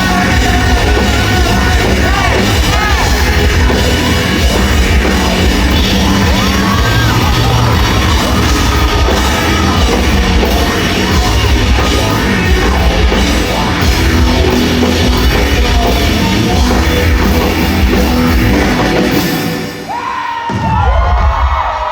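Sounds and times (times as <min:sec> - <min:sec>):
crowd cheering and screaming: 0:00.0 - 0:21.9
drum kit beat: 0:00.0 - 0:21.9
rock band playing: 0:00.0 - 0:21.9.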